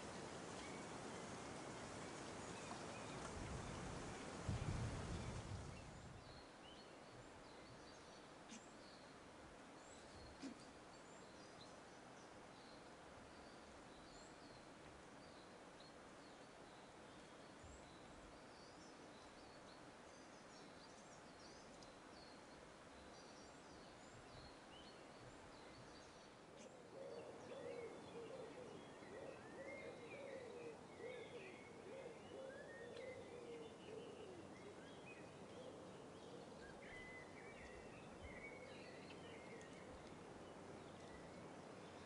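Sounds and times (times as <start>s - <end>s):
background hiss: 0.0s - 42.0s.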